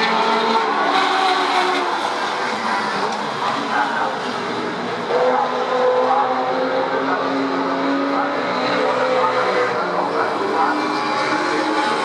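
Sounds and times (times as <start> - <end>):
race car engines at speed: 0.0 - 12.0.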